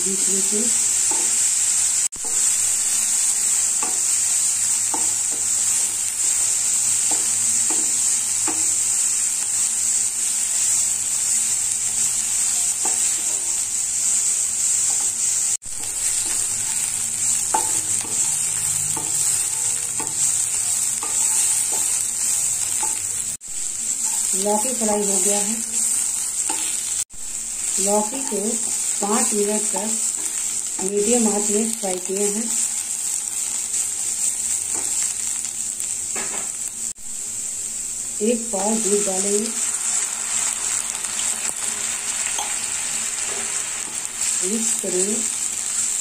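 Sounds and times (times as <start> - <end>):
vegetables sizzling in a pan: 0.0 - 46.0.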